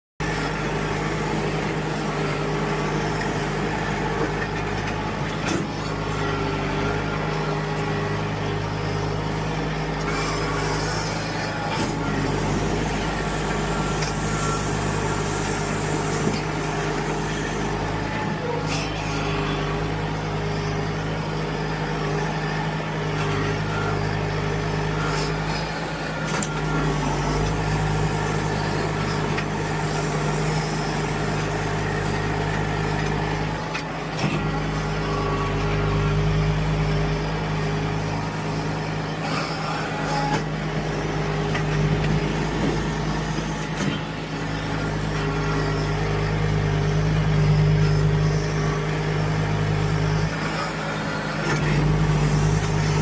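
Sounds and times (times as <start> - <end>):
tractor engine running: 0.2 - 53.0.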